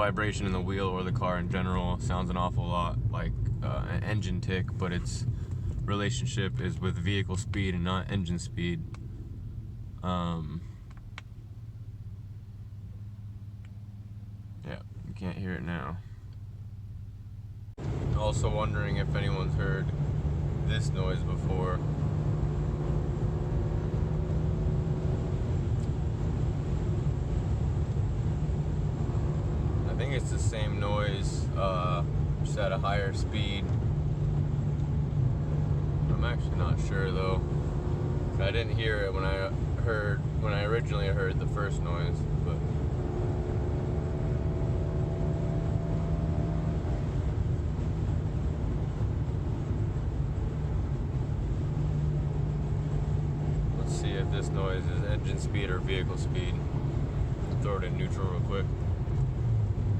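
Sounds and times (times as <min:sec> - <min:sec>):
car drivetrain and road rumble: 0:00.0 - 0:59.9.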